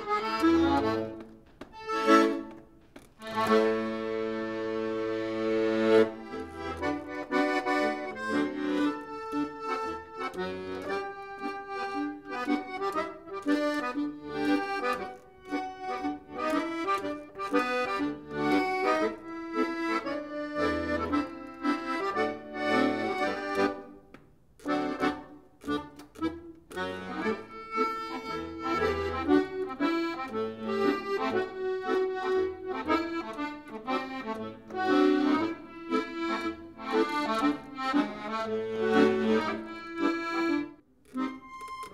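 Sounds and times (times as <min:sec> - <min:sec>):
accordion playing: 0:00.0 - 0:41.9.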